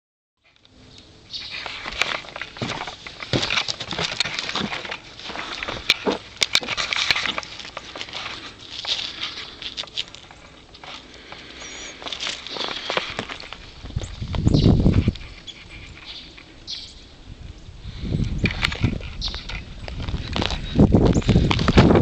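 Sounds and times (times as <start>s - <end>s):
footsteps crunching on icy snow: 1.4s - 16.4s, 18.5s - 22.0s.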